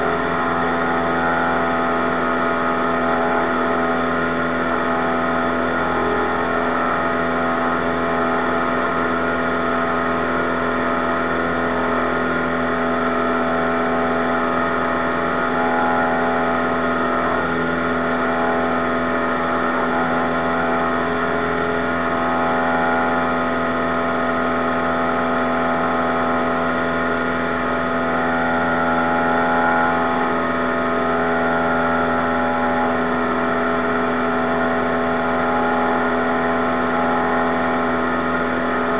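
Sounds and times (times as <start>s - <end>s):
plane engine drone in cabin: 0.0s - 38.9s.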